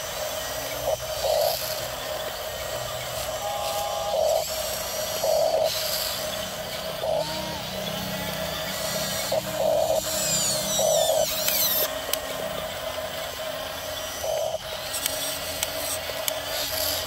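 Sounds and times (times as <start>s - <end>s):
toy bulldozer motors whirring: 0.0s - 17.0s.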